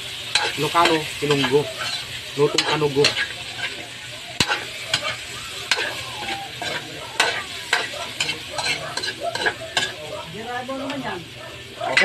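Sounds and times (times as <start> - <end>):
chicken sizzling in a wok: 0.0 - 12.0
spatula scraping a pan: 0.1 - 10.2.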